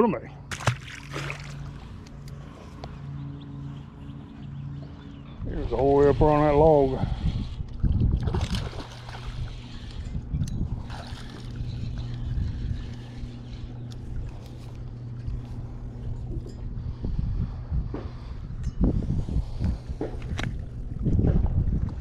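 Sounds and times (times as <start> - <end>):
boat motor humming: 0.0 - 22.0
low wind rumble: 0.3 - 22.0.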